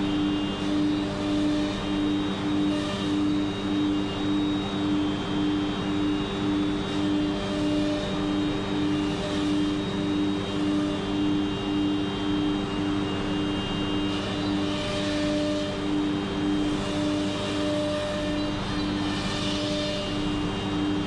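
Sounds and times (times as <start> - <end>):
router spindle drone and whine: 0.0 - 21.0.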